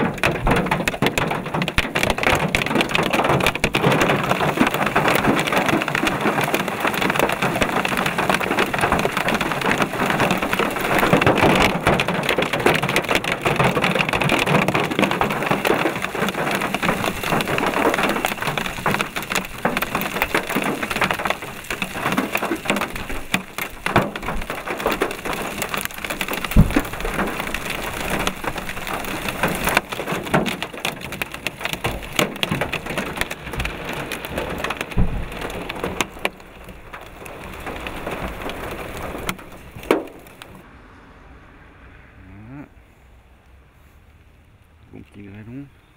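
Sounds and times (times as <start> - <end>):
hailstones striking surfaces: 0.0 - 40.6
rain hissing: 0.0 - 45.7.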